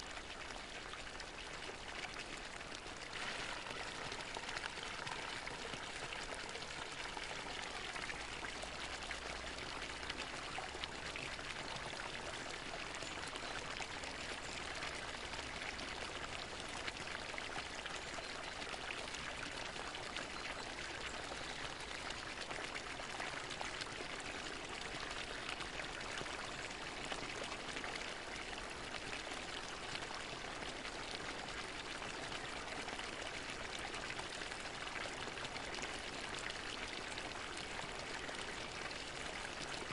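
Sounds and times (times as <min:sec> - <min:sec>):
water fountain splashing: 0:00.0 - 0:28.4, 0:33.7 - 0:39.9.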